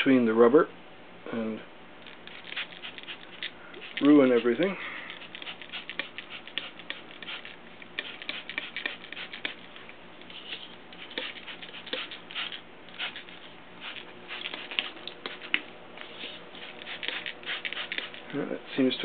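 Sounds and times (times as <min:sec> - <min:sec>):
spray bottle squirting water: 0:02.1 - 0:18.3.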